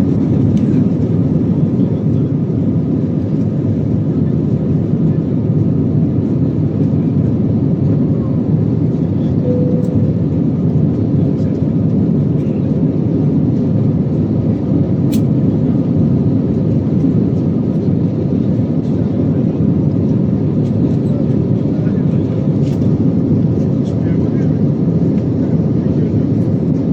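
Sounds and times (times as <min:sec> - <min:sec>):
jet engines and airflow in cabin: 0:00.0 - 0:26.9.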